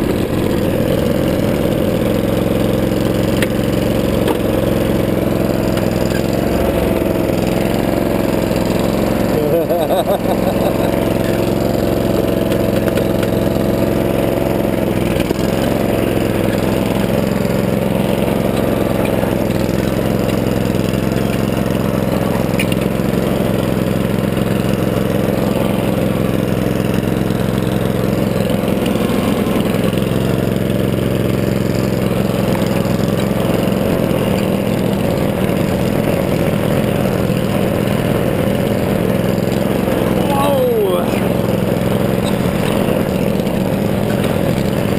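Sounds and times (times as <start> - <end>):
small gas engine running: 0.0 - 44.9.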